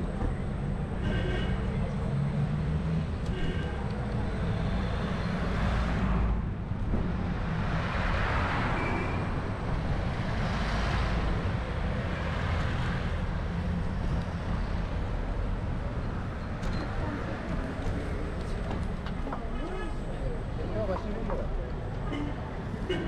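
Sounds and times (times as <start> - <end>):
traffic rumble: 0.0 - 23.0
vehicles passing: 0.0 - 23.0.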